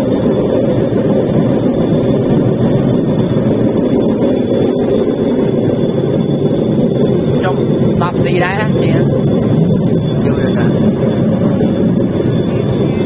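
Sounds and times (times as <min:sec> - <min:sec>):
small train engine and wheels rumbling: 0:00.0 - 0:13.0.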